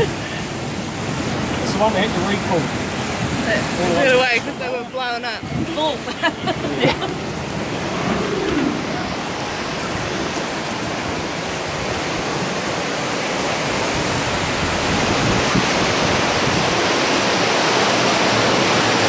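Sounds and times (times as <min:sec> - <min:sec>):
white water rushing: 0:00.0 - 0:19.0.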